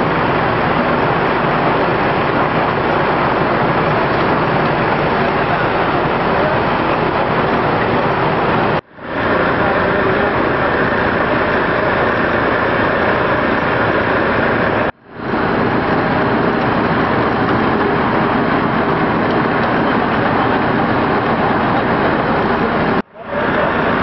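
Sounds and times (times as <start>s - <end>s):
loud engine noise: 0.0s - 24.0s.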